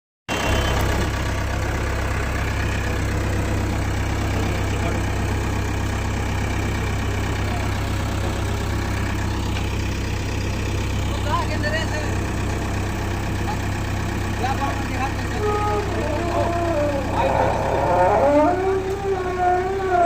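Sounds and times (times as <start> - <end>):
engine idling: 0.3 - 20.0.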